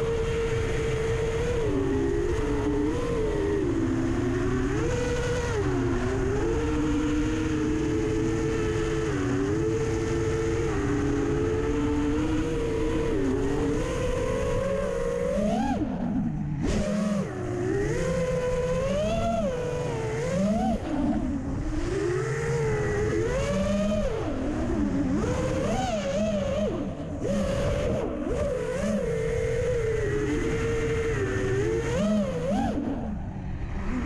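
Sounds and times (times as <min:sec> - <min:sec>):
low wind rumble on microphone: 0:00.0 - 0:34.0
quadcopter motors whining: 0:00.0 - 0:34.0.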